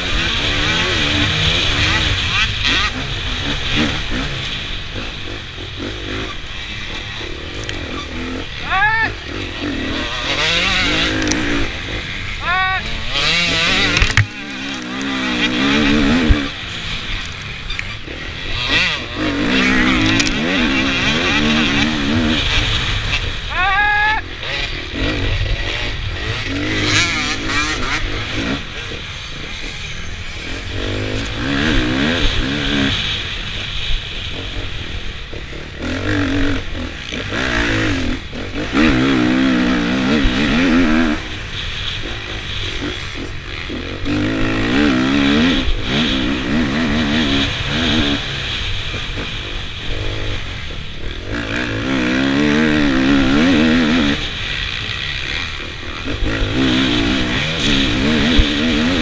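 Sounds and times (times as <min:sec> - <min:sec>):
motorcycle engine revving: 0:00.0 - 0:59.0
wind and track noise: 0:00.0 - 0:59.0.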